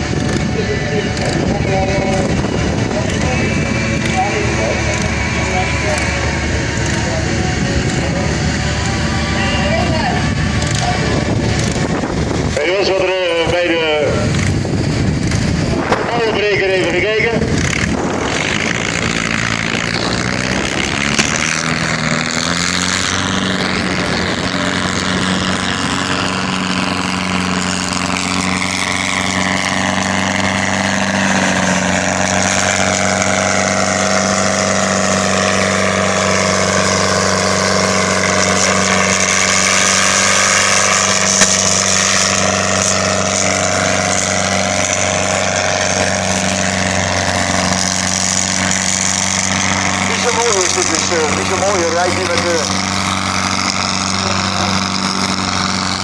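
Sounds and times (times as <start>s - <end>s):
high whine: 0.0s - 56.0s
tractor engine running: 0.0s - 56.0s.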